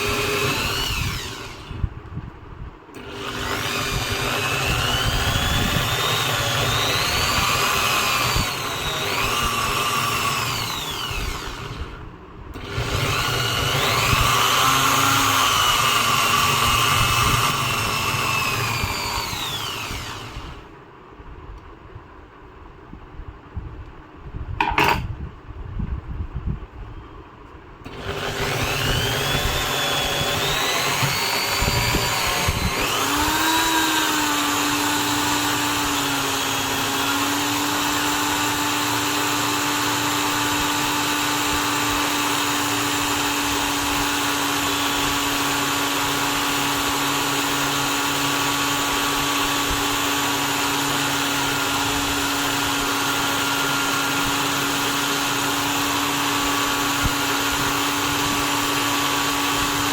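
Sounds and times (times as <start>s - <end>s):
electric drill motor running: 0.0s - 1.9s, 3.0s - 12.0s, 12.6s - 20.7s, 27.9s - 59.9s.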